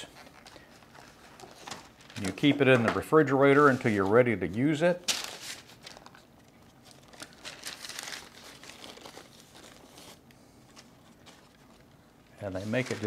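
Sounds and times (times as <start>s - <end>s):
paper sheet crinkling: 0.0s - 13.0s.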